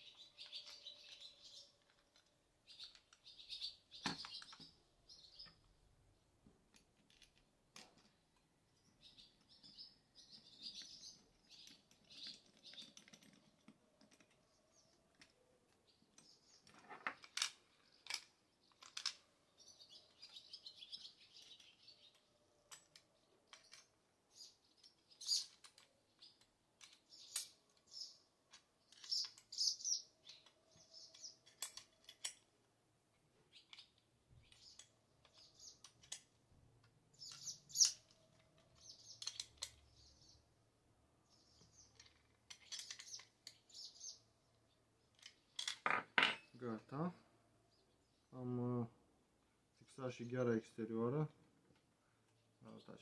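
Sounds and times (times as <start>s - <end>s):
metal screws and tool clicking: 0.0s - 4.7s, 6.7s - 40.4s, 41.3s - 44.2s, 45.1s - 46.5s.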